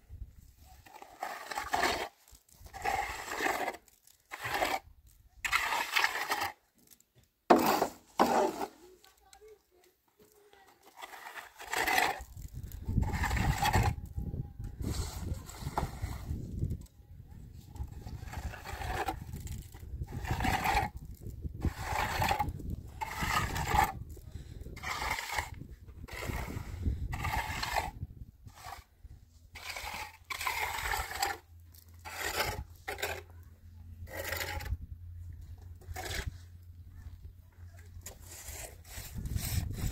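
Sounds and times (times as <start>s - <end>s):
trowel scraping cement plaster: 0.6s - 9.1s, 10.2s - 16.8s, 17.5s - 33.4s, 34.0s - 34.8s, 35.7s - 36.6s, 38.0s - 39.9s.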